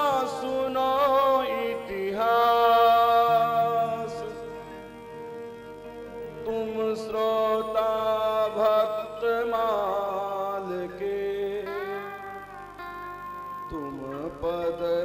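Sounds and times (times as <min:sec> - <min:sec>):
man singing devotional melody: 0:00.0 - 0:05.0, 0:06.2 - 0:15.0
instrumental drone: 0:00.0 - 0:15.0.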